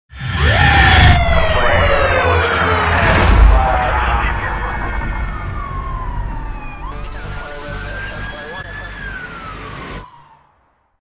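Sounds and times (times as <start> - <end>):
deep rumble: 0.2 - 9.5
siren wail: 0.2 - 10.7.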